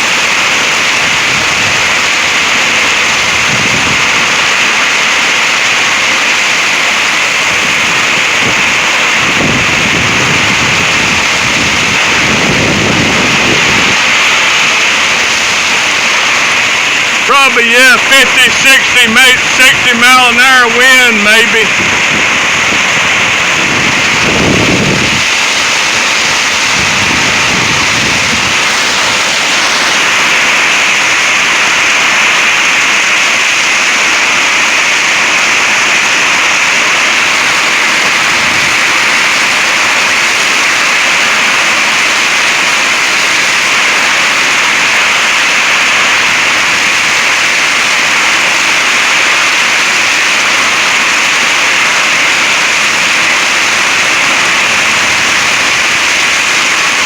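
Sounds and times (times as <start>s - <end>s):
wind-driven heavy rain: 0.0s - 57.0s.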